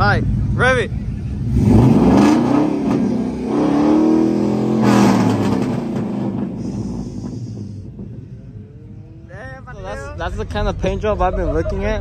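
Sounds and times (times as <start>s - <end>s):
pickup truck engine revving: 0.0s - 11.3s.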